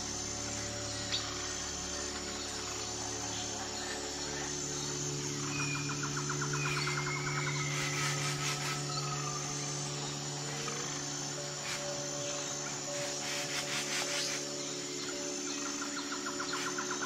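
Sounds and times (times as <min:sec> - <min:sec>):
insect-like pulsed trill: 0:00.0 - 0:17.0
low drone: 0:00.0 - 0:17.0.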